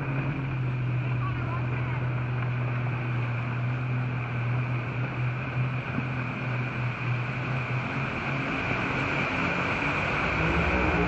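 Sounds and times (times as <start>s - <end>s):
motorboat engine humming: 0.0s - 11.0s
water churning in wake: 0.0s - 11.0s.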